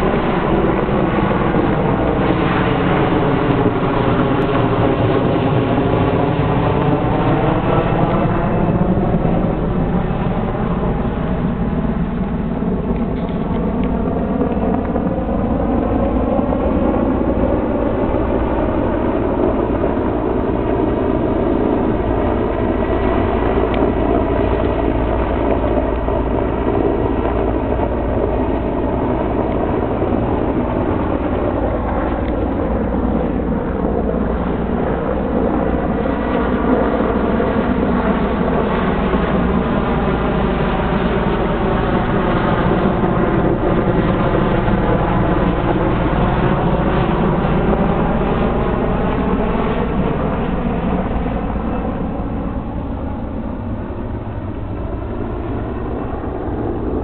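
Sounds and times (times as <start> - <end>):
helicopter drone overhead: 0.0 - 57.0.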